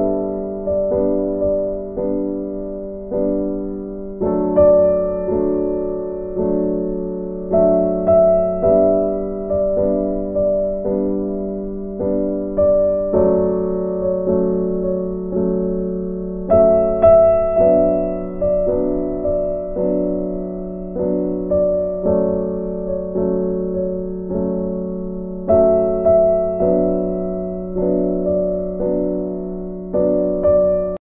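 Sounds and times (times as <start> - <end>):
slow gentle piano music: 0.0 - 31.0.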